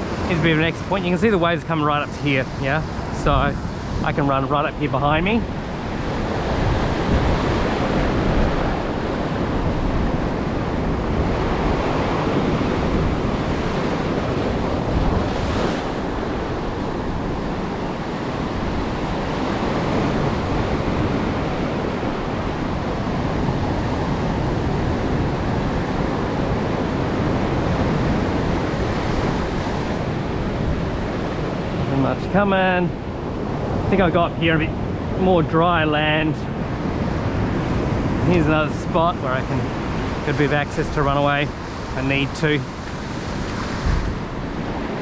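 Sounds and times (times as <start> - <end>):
surf washing over sand: 0.0 - 45.0.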